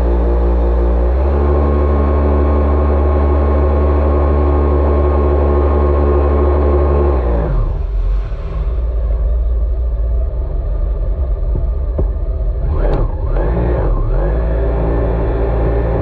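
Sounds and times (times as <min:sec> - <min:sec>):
jet ski engine: 0:00.0 - 0:16.0.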